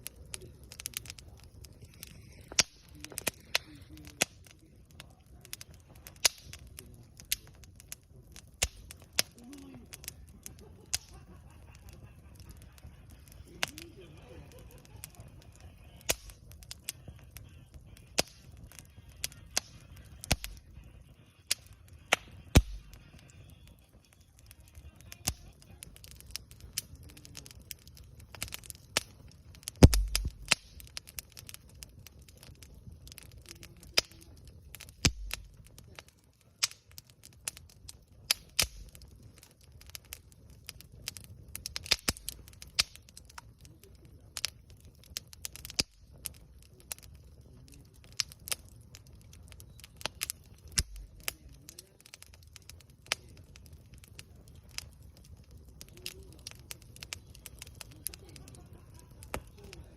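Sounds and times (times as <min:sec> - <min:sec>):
campfire crackling: 0:00.0 - 0:59.9
fire popping: 0:00.0 - 0:59.9.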